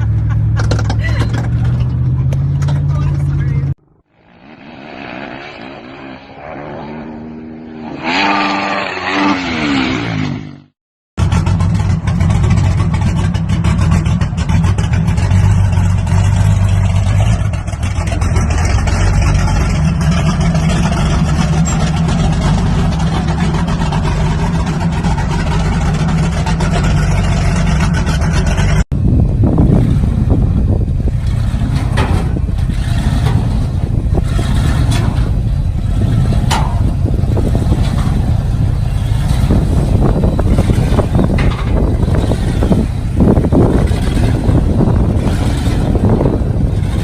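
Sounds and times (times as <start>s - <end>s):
diesel truck engine rumbling: 0.0s - 4.8s, 11.2s - 47.0s
diesel truck engine revving: 0.0s - 47.0s.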